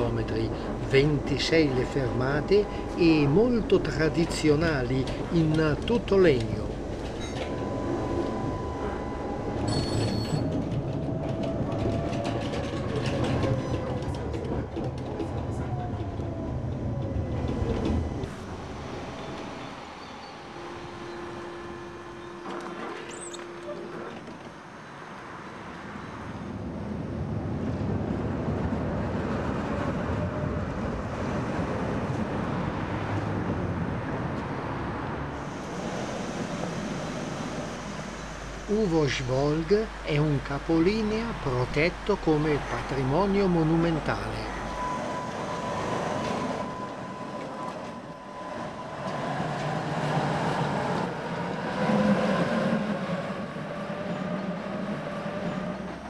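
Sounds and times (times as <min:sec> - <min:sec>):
tram rolling past: 0:00.0 - 0:56.0.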